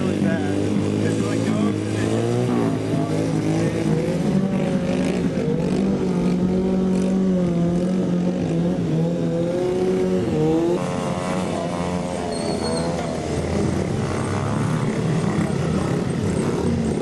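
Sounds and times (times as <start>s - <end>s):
mini bike engine revving: 0.0s - 17.0s.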